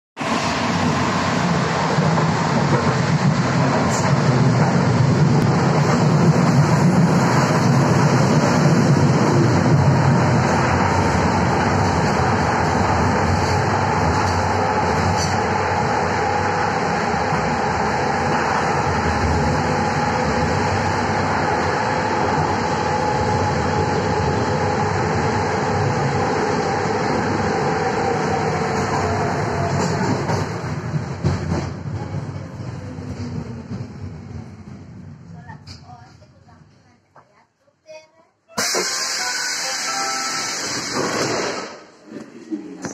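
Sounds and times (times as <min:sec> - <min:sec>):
underground train rumbling: 0:00.2 - 0:37.2.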